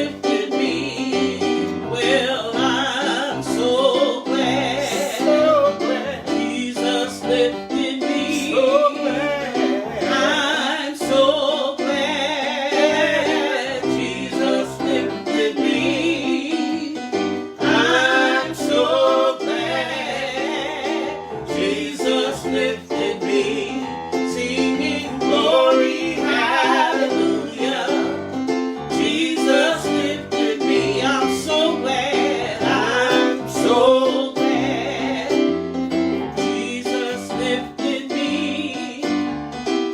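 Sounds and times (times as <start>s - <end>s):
solo voice singing gospel: 0.0s - 39.6s
piano chords: 0.0s - 39.9s.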